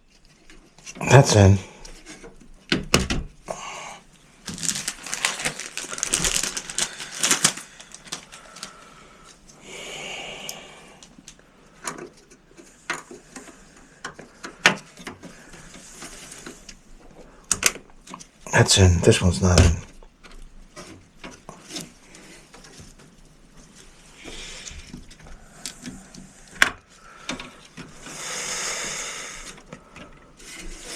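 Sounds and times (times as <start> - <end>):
rustling: 0.0 - 30.9.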